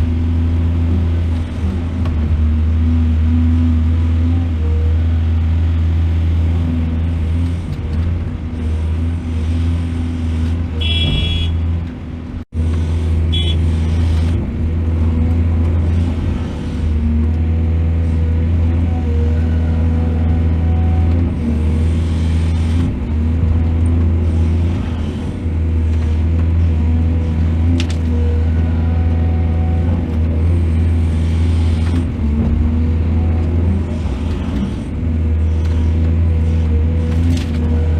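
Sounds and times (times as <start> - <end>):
excavator diesel engine droning: 0.0 - 37.9.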